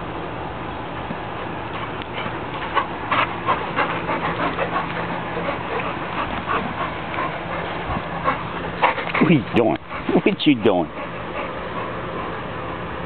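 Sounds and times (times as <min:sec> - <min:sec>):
dog panting: 0:01.7 - 0:12.8.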